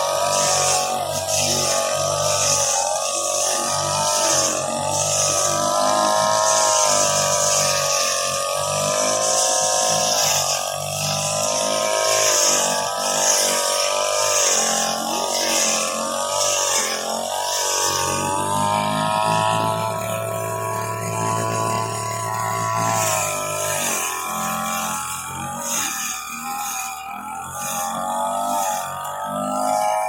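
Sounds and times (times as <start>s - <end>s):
grass cutter motor running: 0.0s - 30.0s.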